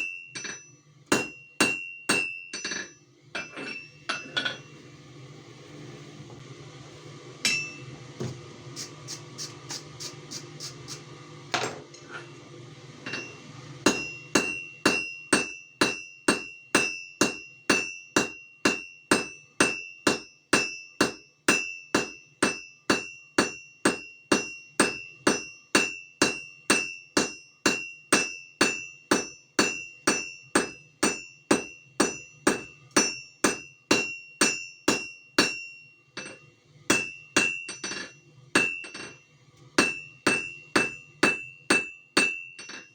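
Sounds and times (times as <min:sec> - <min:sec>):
hammer striking metal on anvil: 0:00.0 - 0:04.7, 0:07.4 - 0:07.9, 0:13.0 - 0:39.2, 0:39.8 - 0:42.9.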